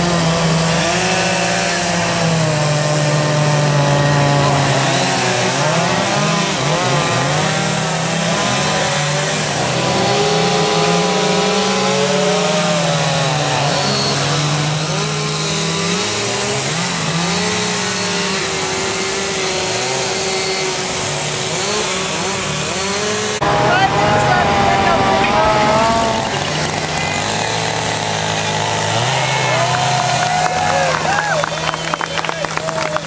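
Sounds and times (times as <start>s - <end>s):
chainsaws revving: 0.0s - 33.0s.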